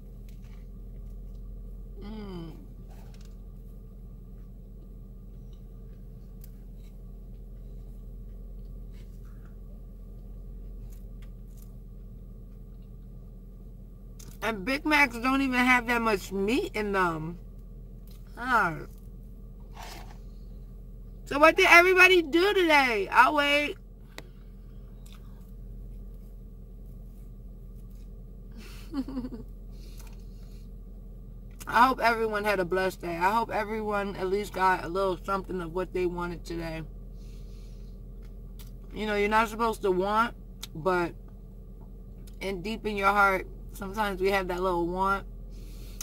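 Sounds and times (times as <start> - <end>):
low hum inside a car: 0.0 - 46.0.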